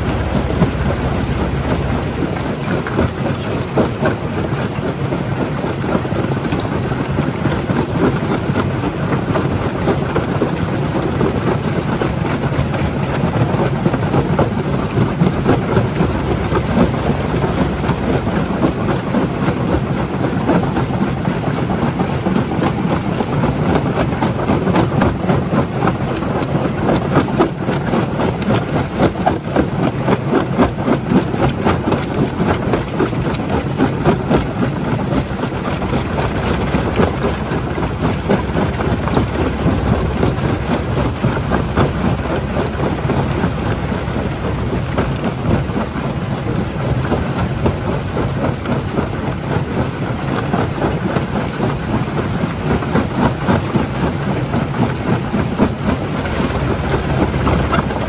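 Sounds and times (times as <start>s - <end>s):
heavy machine rumble: 0.0s - 58.0s.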